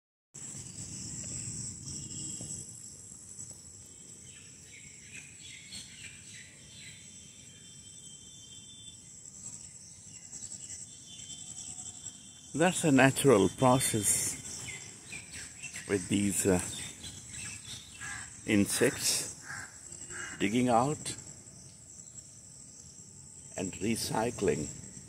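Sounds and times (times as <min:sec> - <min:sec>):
insects trilling: 0:00.4 - 0:25.0
low rumble of outdoor noise: 0:00.4 - 0:25.0.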